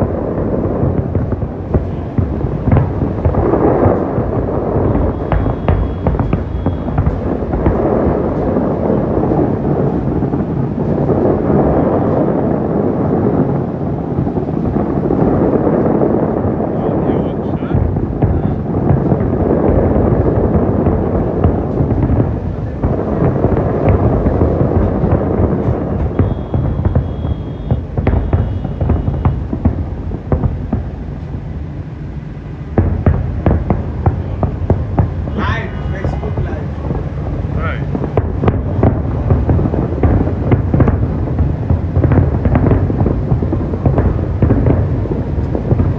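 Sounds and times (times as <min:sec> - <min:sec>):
fireworks booming: 0:00.0 - 0:45.9
low rumble: 0:00.0 - 0:45.9.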